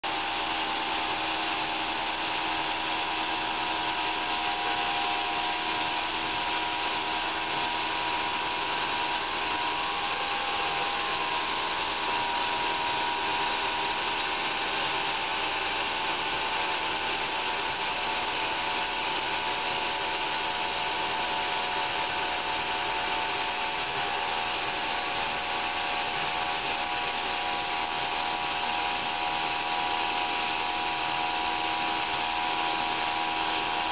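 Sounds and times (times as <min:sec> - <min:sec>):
sawmill cutting a log: 0:00.0 - 0:33.9.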